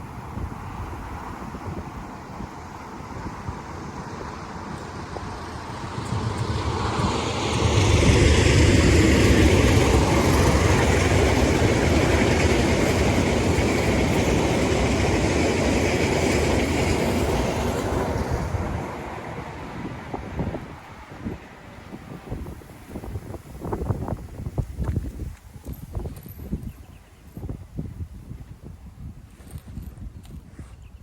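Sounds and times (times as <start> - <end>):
train rumbling past: 0.0 - 26.1.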